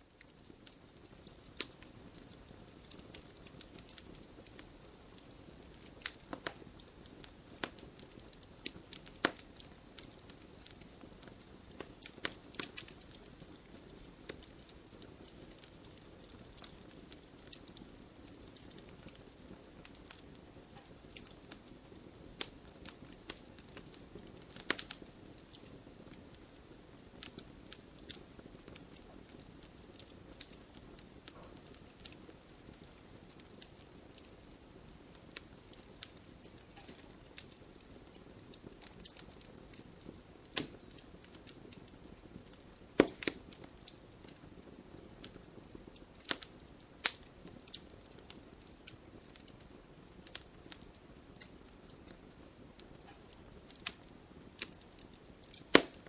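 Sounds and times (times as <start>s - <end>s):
fire crackling and popping: 0.0s - 56.0s
hiss of flames: 0.1s - 56.0s.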